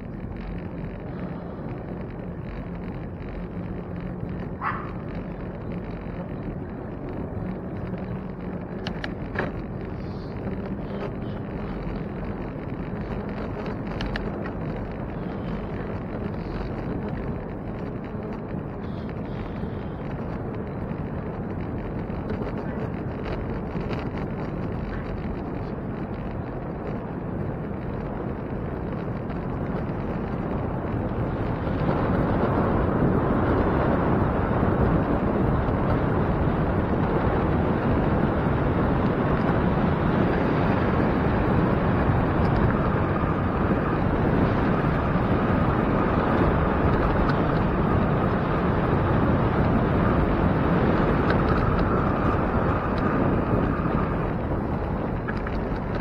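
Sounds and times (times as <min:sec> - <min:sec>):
faint steady whine: 0:00.0 - 0:56.0
road noise: 0:00.0 - 0:56.0
wind rushing over microphone: 0:00.0 - 0:56.0.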